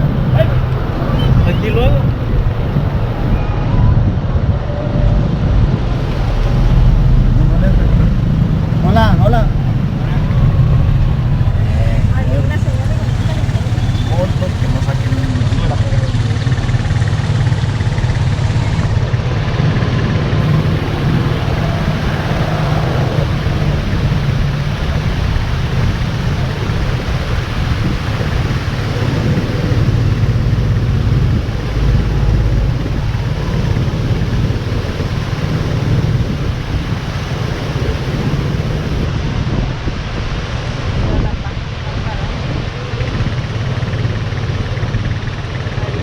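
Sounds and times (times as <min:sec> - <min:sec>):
storm wind on microphone: 0:00.0 - 0:15.8, 0:16.6 - 0:46.0.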